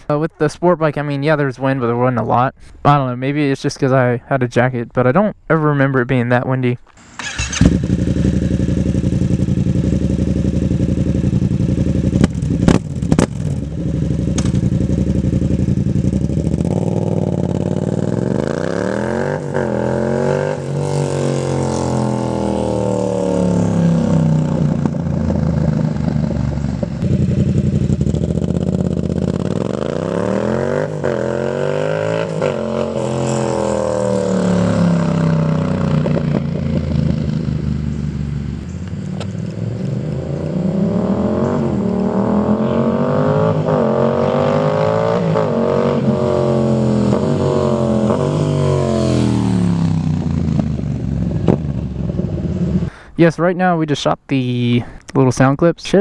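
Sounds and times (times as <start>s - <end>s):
motorcycle engine revving: 6.9s - 52.9s.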